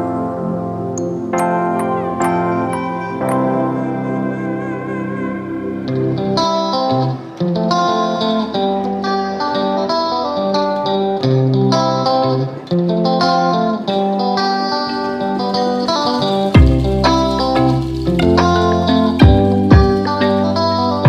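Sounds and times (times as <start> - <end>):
plucked guitar melody: 0.0 - 21.0.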